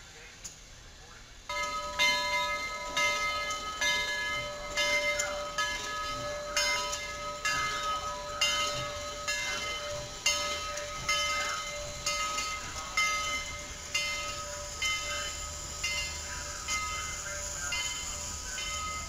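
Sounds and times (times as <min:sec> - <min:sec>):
low rumble of train: 0:00.0 - 0:19.0
railroad bell ringing: 0:01.5 - 0:19.0.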